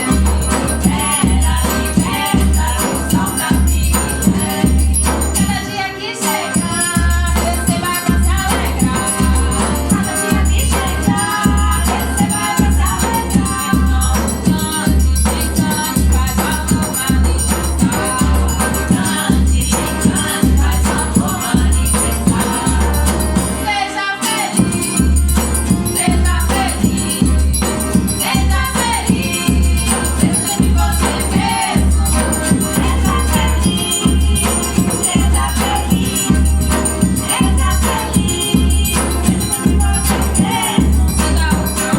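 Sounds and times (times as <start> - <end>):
bass drum beat: 0.0 - 5.6, 6.9 - 23.6, 24.8 - 41.9
acoustic guitar: 0.0 - 41.9
button accordion melody: 0.0 - 41.9.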